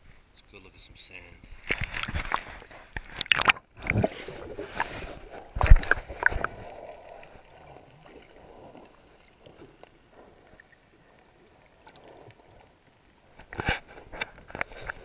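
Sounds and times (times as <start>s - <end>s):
underwater moving water wash: 1.6s - 15.0s.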